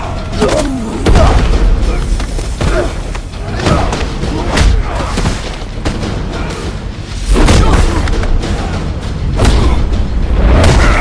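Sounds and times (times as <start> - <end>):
dramatic film score: 0.0 - 11.0.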